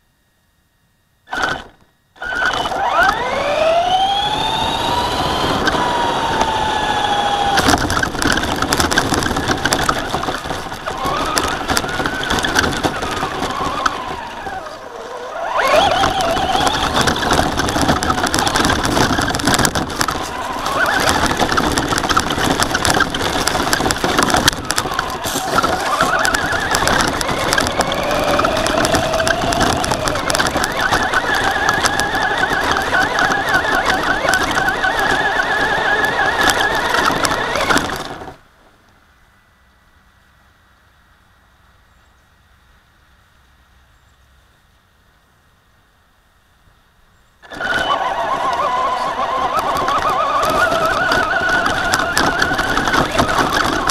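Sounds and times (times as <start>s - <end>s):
toy truck motor whining: 1.3s - 38.4s, 47.4s - 53.9s
tyres and chassis rattling: 1.3s - 38.8s, 47.4s - 53.9s.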